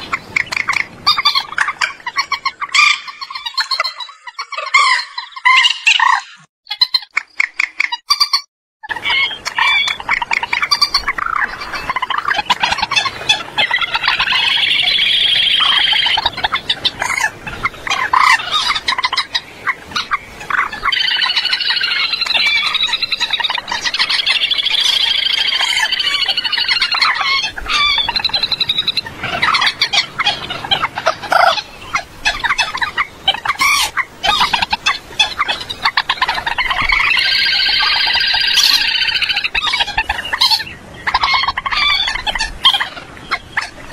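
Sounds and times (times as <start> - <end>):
moorhens clucking: 0.0 - 43.9
moorhens stuttering calls: 0.0 - 43.9.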